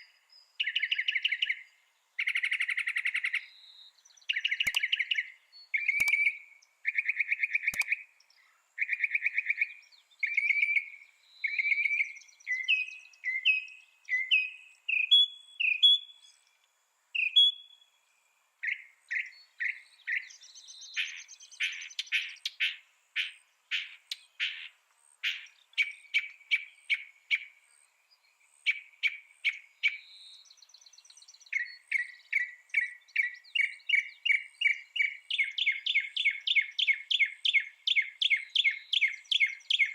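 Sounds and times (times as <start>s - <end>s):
mockingbird singing: 0.6s - 16.4s, 18.6s - 27.5s, 28.5s - 39.9s.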